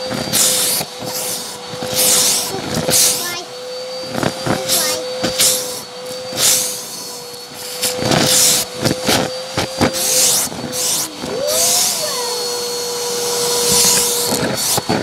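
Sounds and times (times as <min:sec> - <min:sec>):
rushing air: 0:00.0 - 0:15.0
vacuum cleaner motor whine: 0:00.0 - 0:15.0.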